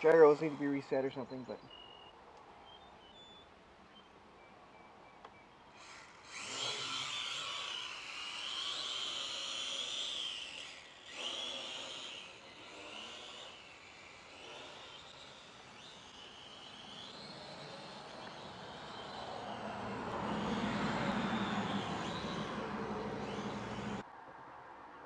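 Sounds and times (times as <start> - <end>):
quadcopter propellers whining: 0.0 - 4.0, 5.2 - 24.0.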